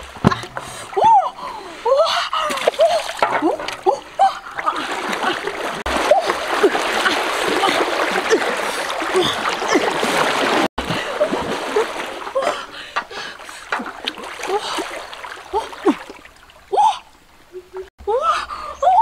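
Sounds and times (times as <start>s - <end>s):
water splashing from wading: 2.4s - 17.9s.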